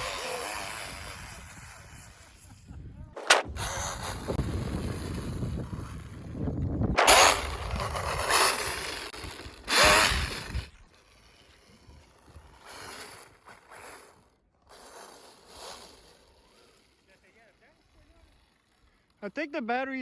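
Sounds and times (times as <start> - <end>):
rc snowmobile motor running: 0.0 - 19.5.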